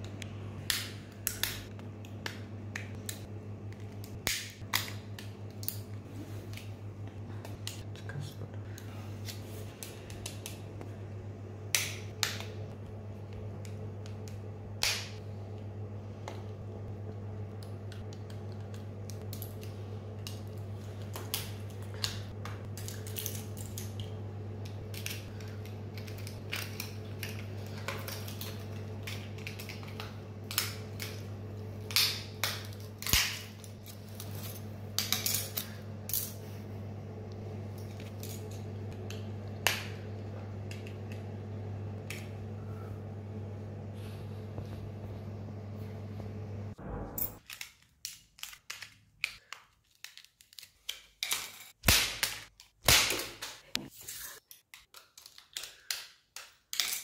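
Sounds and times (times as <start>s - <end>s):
steady low hum: 0.0s - 47.4s.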